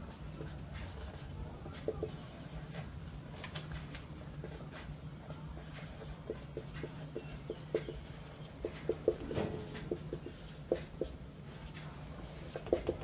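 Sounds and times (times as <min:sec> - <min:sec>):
marker pen writing on whiteboard: 0:00.0 - 0:02.9, 0:03.7 - 0:13.0.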